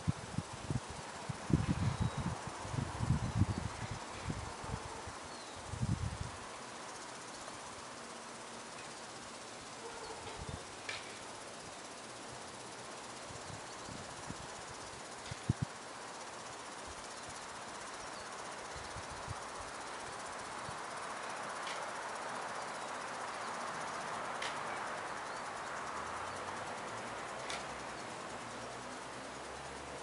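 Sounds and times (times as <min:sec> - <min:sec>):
outdoor background hiss: 0:00.0 - 0:30.0.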